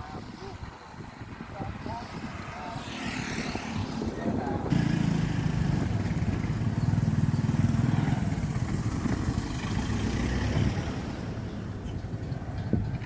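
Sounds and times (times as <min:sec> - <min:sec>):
engine rumbling: 0:01.5 - 0:13.0.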